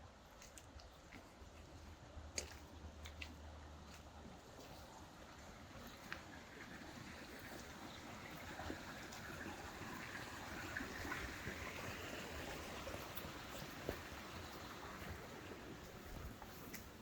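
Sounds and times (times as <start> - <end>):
running water: 0.3 - 17.0.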